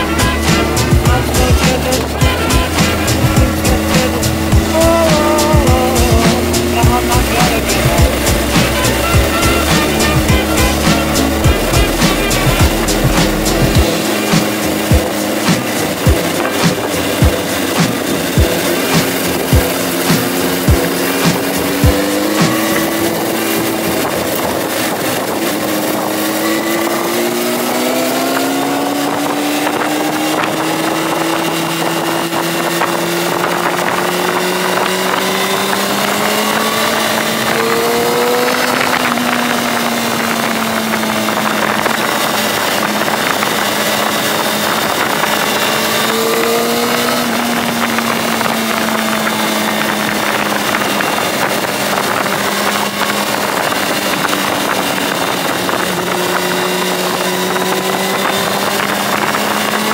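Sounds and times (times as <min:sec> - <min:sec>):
motorcycle engine running: 0:00.0 - 0:59.9
wind rushing on microphone: 0:00.0 - 0:59.9.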